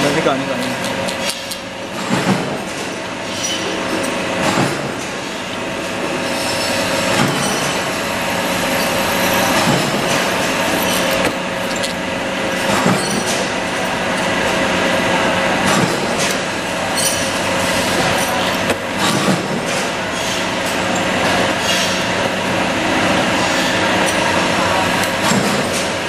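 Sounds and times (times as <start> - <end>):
drill press humming: 1.0 - 26.0.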